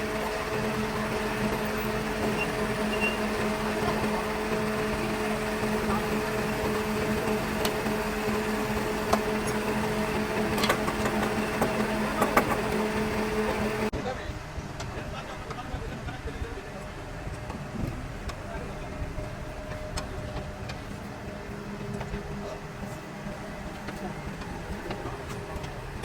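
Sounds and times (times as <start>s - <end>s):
machine motor humming: 0.0s - 13.9s, 16.6s - 26.0s.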